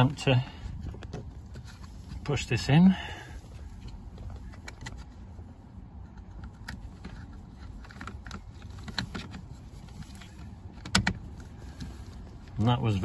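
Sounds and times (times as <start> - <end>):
faint low background rumble: 0.0 - 13.0.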